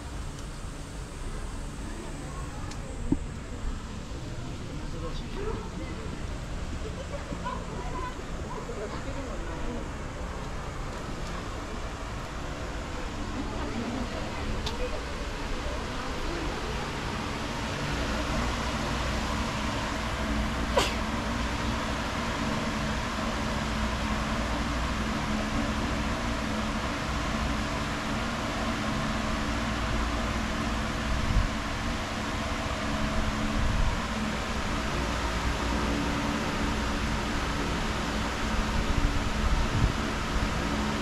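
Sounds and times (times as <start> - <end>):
ventilation fan hum: 0.0 - 41.0.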